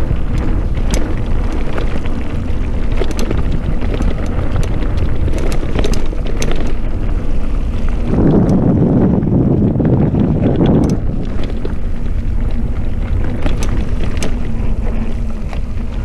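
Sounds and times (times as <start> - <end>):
bike clicks and rattles over bumps: 0.0 - 16.0
wind buffeting microphone: 0.0 - 16.0.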